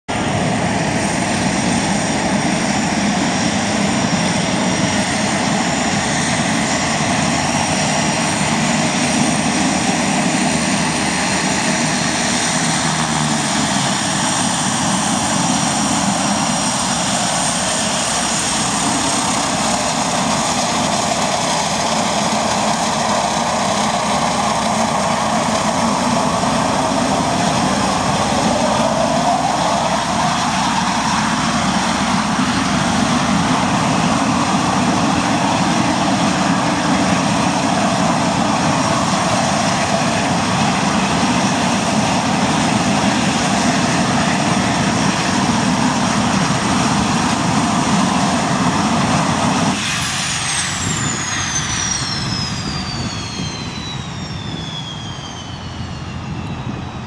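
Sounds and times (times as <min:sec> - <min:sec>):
high turbine whine: 0:00.1 - 0:57.0
propeller drone: 0:00.1 - 0:57.0
turboprop engines running: 0:00.1 - 0:57.0.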